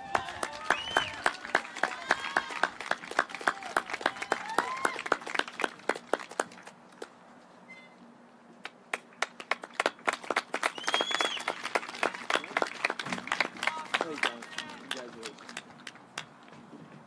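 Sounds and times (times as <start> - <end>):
hand clapping: 0.0 - 7.1, 8.6 - 16.4.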